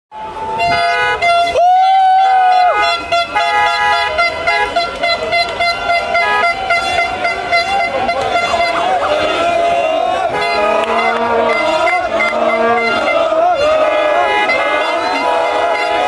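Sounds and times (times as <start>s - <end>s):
car horns honking: 0.2s - 16.0s
people shouting: 1.4s - 16.0s.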